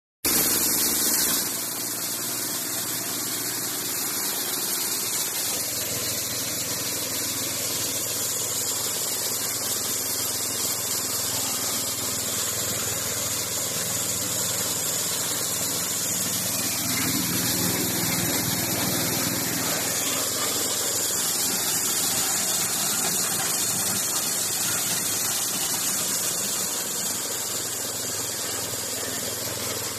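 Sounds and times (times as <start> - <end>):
corn sheller machine running: 0.3 - 29.9
hiss of cobs being shelled: 0.3 - 29.9.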